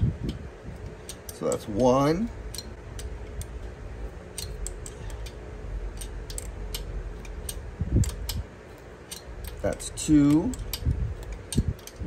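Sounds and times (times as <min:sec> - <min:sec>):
wrench metallic clicks: 0:00.2 - 0:12.0.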